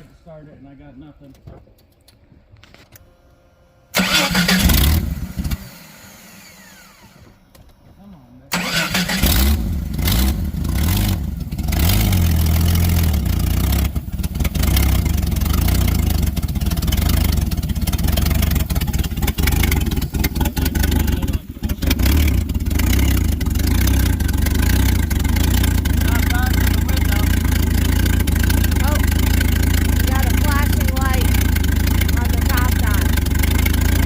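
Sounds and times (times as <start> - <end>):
truck engine starting and revving: 3.9 - 7.4, 8.5 - 34.0.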